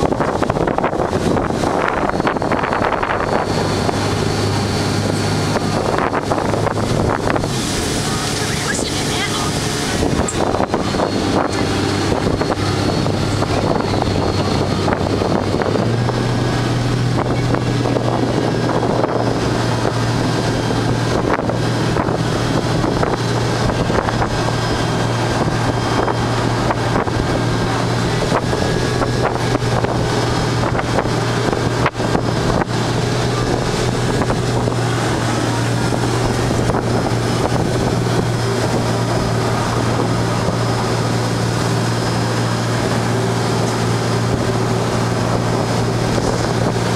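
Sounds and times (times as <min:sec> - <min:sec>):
motorboat engine running: 0:00.0 - 0:46.9
water rushing past hull: 0:00.0 - 0:46.9
wind buffeting microphone: 0:00.0 - 0:46.9.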